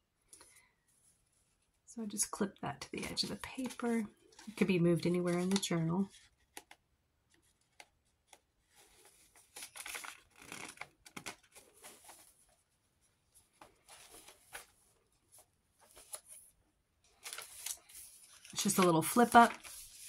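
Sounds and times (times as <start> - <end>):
paper pages rustling: 3.1 - 20.0.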